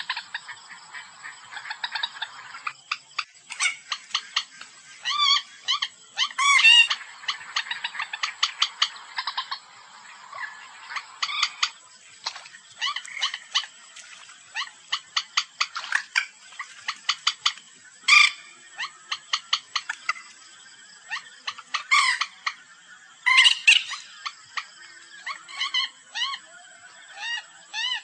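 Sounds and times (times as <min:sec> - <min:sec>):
moorhen clucking calls: 0:00.0 - 0:28.0.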